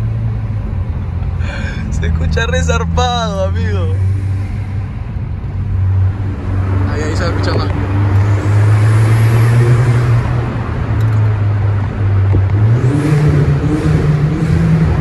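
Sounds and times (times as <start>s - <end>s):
car engine and exhaust: 0.0s - 15.0s
road noise: 0.0s - 15.0s.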